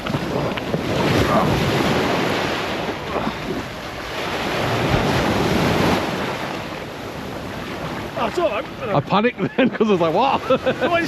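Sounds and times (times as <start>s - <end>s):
sea waves: 0.0s - 11.0s
wind buffeting microphone: 0.0s - 11.0s.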